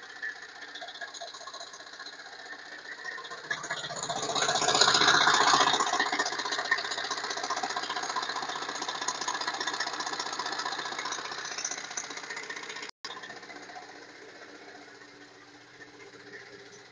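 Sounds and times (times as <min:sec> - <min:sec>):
diesel engine clattering: 0:00.0 - 0:16.9.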